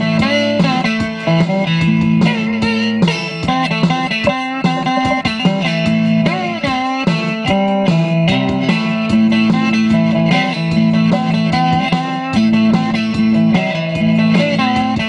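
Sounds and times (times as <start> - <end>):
electric guitar riff: 0.0 - 15.0.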